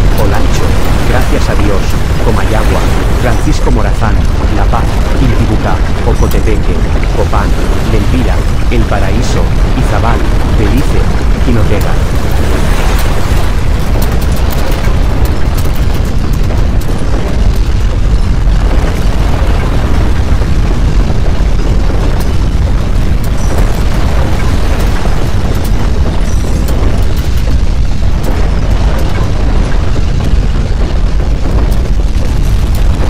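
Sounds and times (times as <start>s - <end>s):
deep earthquake rumbling: 0.0s - 33.0s.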